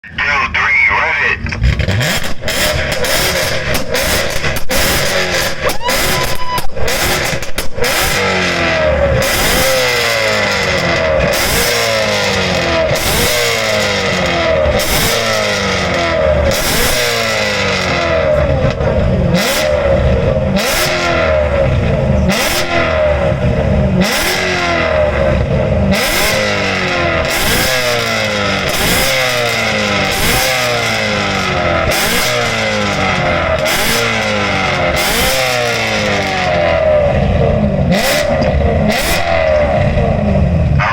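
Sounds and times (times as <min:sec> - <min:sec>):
car engine revving hard: 0:01.4 - 0:40.9.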